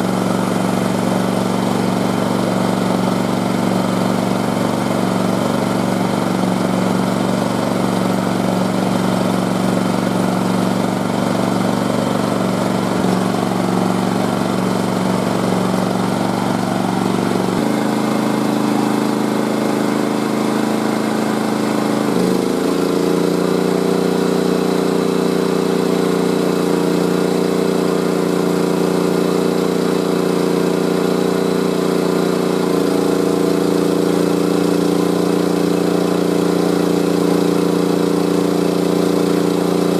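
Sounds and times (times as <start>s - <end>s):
portable generator engine running: 0.0s - 39.9s.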